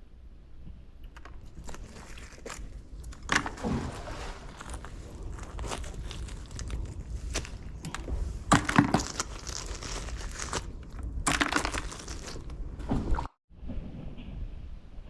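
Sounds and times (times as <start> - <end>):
crunching and knocking handling noises: 1.0 - 13.3
low rumble: 2.6 - 15.0.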